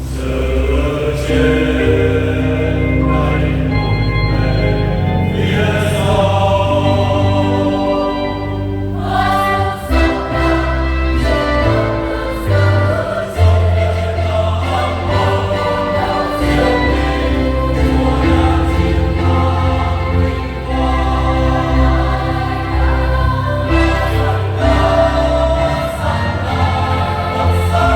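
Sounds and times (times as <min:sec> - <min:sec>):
choir singing a hymn: 0:00.0 - 0:27.9
low accompanying notes: 0:00.0 - 0:27.9.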